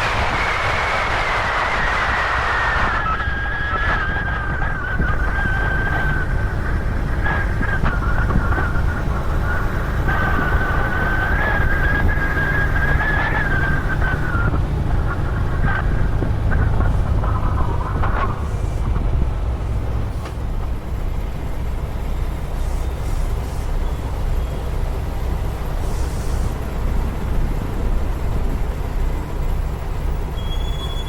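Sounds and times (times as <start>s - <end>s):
truck engine rumbling: 0.0s - 31.0s
wavering high-pitched whine: 0.0s - 31.0s.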